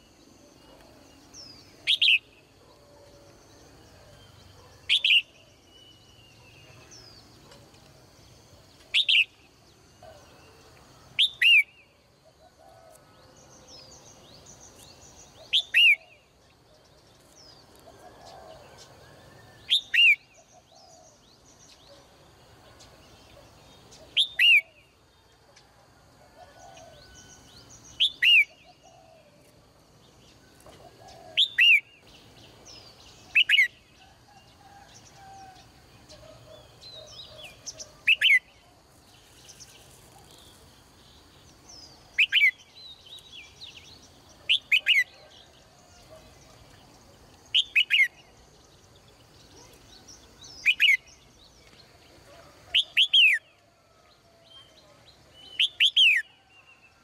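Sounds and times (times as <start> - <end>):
high twittering of birds: 0.0 - 57.0.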